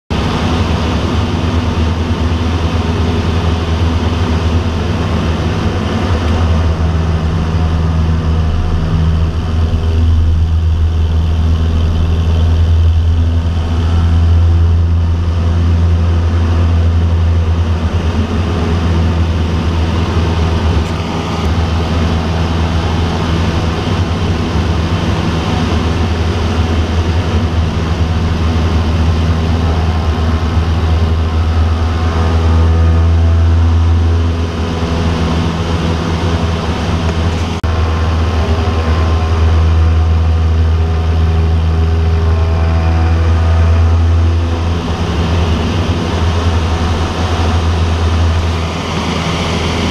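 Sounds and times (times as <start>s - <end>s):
propeller plane engine droning: 0.1s - 49.9s.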